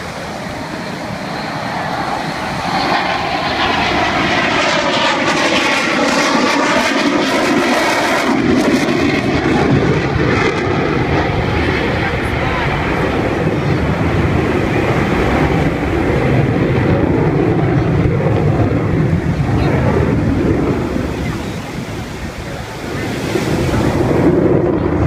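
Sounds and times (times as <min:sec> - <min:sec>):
jet engines flyby: 0:00.0 - 0:25.0.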